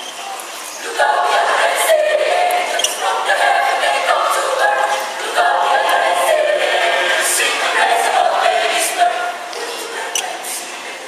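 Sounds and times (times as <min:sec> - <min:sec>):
mixed choir singing a hymn: 0:00.8 - 0:11.0.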